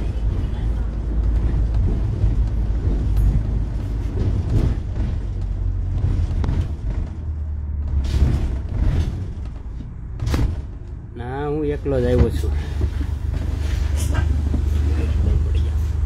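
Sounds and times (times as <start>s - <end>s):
bus body rattles and knocks: 0.0s - 16.0s
bus engine and road rumble: 0.0s - 16.0s.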